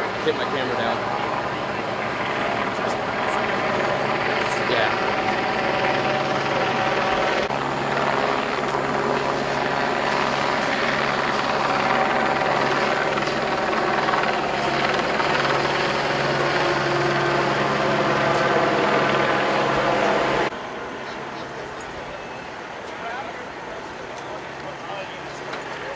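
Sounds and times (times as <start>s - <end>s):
helicopter rotor and turbine drone: 0.0s - 25.9s.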